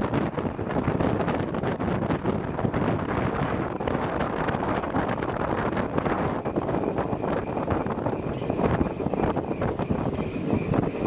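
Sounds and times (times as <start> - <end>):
train wheels on track: 0.0 - 11.0
wind buffeting microphone: 0.0 - 11.0.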